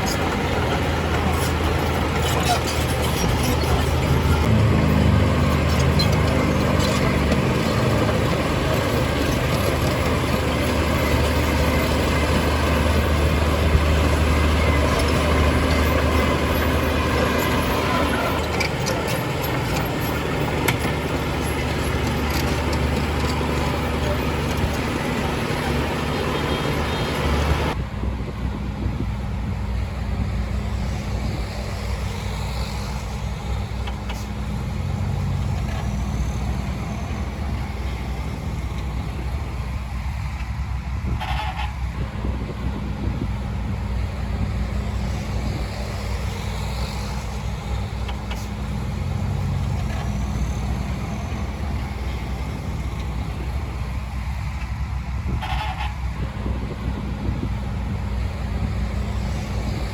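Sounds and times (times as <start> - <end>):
heavy diesel engine drone: 0.0 - 59.9.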